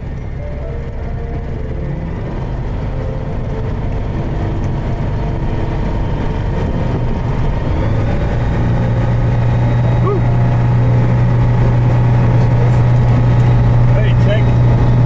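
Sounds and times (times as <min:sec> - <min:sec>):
propeller engine running: 0:00.0 - 0:15.0
wheels rumbling on runway: 0:00.0 - 0:15.0.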